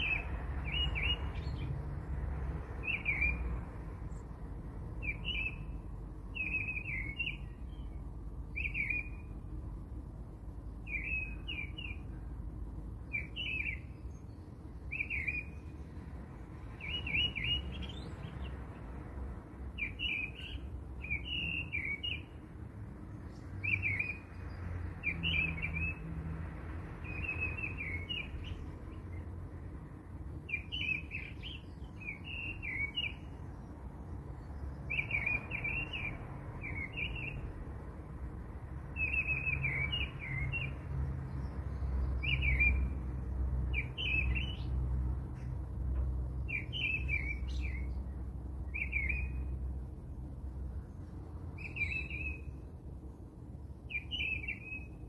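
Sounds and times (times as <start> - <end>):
small birds twittering: 0.0 - 18.9, 19.5 - 26.2, 26.9 - 37.6, 38.7 - 55.0.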